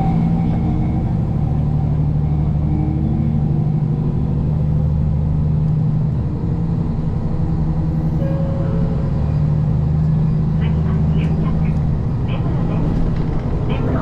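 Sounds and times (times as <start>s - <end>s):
rail noise: 0.0s - 14.0s
railcar engine drone: 0.0s - 14.0s.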